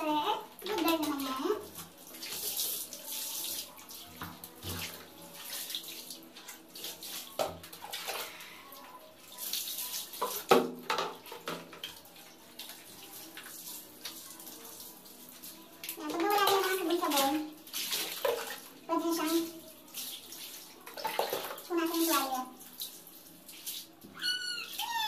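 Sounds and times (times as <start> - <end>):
water splashing onto tiled floor: 0.0 - 25.0.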